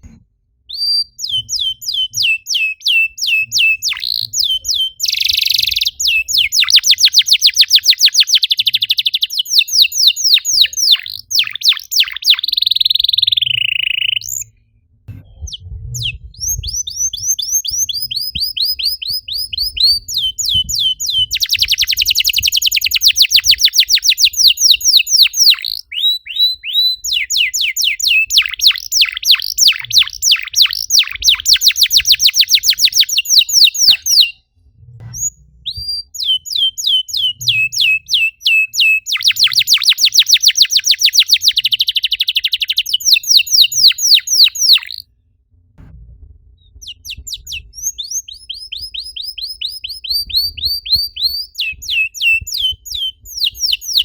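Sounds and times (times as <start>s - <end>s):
canary singing trills: 0.7s - 14.6s, 15.2s - 34.4s, 35.1s - 45.1s, 46.8s - 54.0s.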